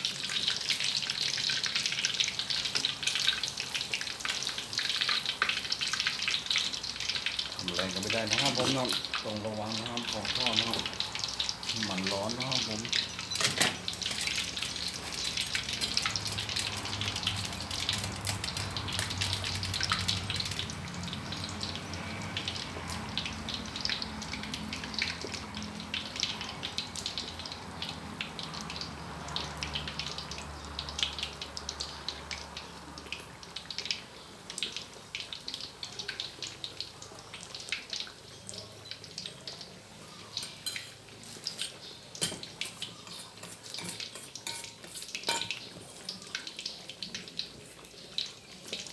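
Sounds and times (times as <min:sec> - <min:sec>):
oil sizzling and popping: 0:00.0 - 0:48.9.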